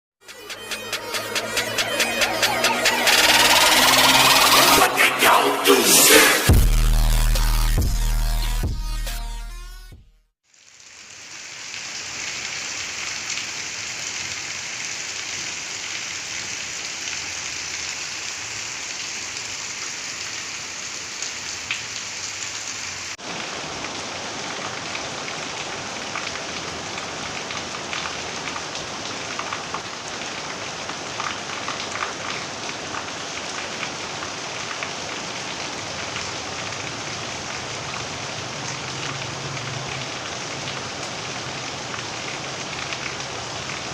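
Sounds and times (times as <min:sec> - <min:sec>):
steady rain: 0:00.3 - 0:06.2, 0:10.4 - 0:43.9.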